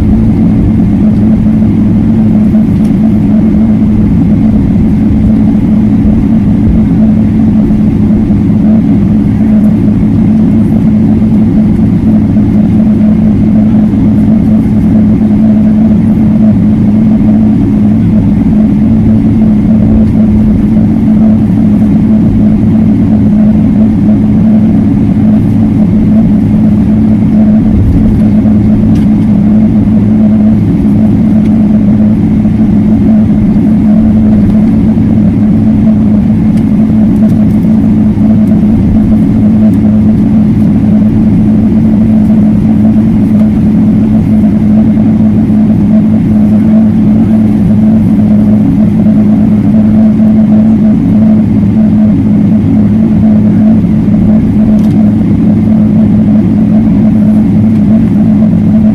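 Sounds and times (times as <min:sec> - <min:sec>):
airplane cabin engine drone: 0:00.0 - 0:58.9.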